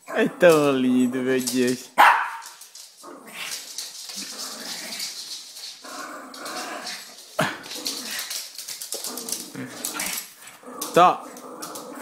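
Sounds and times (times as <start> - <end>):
dog growling: 0.0 - 1.3, 3.0 - 12.0.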